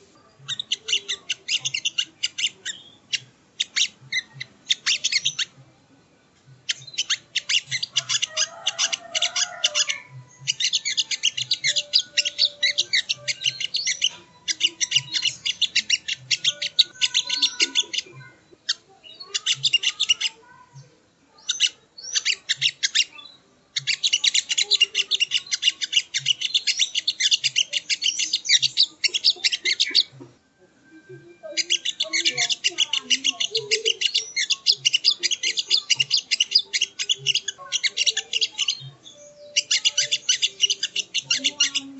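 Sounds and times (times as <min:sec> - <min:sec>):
bird chattering song: 0:00.0 - 0:05.6, 0:06.6 - 0:30.3, 0:31.1 - 0:41.9.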